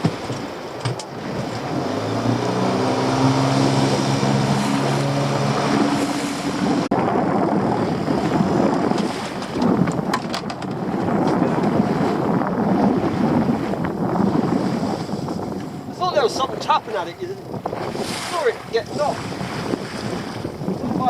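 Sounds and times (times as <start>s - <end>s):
outboard motor running: 0.0s - 21.0s
water noise: 0.0s - 21.0s
wind: 0.0s - 21.0s.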